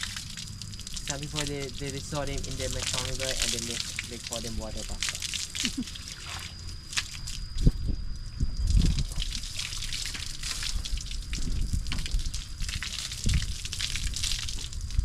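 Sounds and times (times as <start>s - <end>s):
water splashing and dripping: 0.0s - 7.4s, 8.6s - 15.0s.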